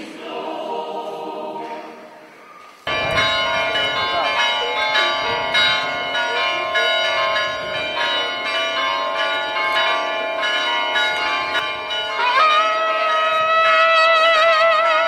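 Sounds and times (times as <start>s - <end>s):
church bells ringing: 2.9s - 15.0s.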